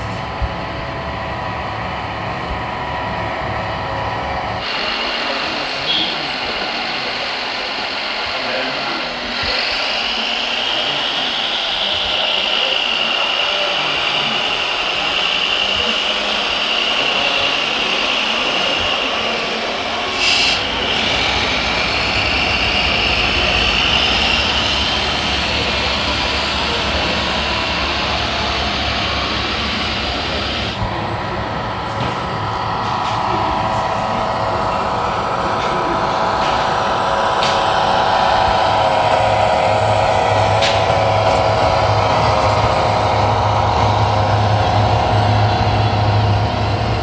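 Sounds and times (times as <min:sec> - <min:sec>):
electric motor and gearbox whine: 0:00.0 - 0:47.0
steady mechanical hum: 0:00.0 - 0:47.0.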